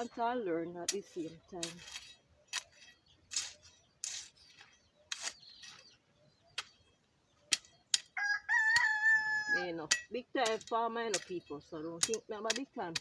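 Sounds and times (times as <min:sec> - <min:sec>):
hand tool knocking and scraping soil: 0:00.0 - 0:09.0, 0:09.6 - 0:13.0.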